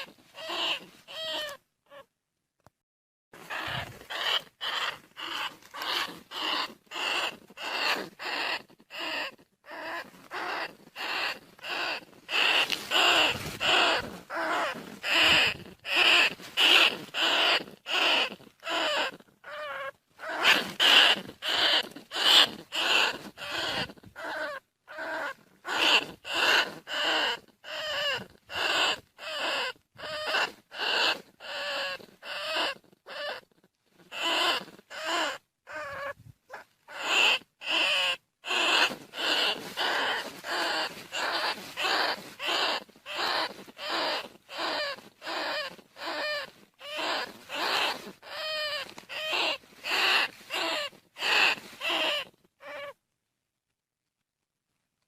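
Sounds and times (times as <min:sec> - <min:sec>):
rat squeaking: 0:00.0 - 0:02.1, 0:03.4 - 0:53.0.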